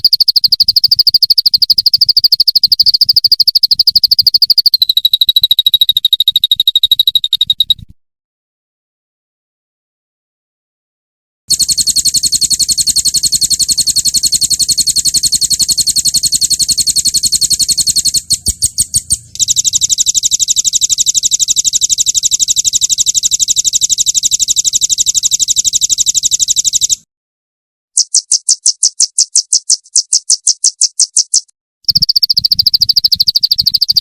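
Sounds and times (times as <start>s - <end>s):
songbird trilling: 0.0s - 7.8s, 11.5s - 27.0s, 28.0s - 34.0s.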